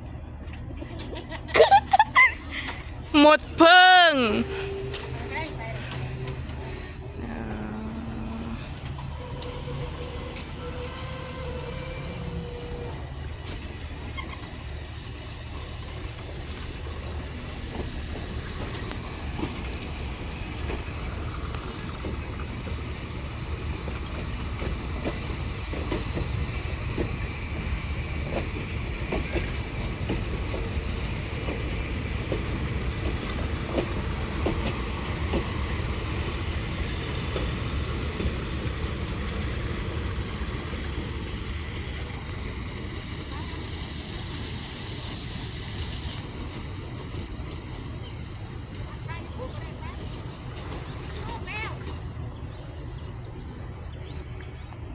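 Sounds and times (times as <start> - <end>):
train rumbling on track: 0.0 - 54.9
train wheels clicking: 4.4 - 53.0.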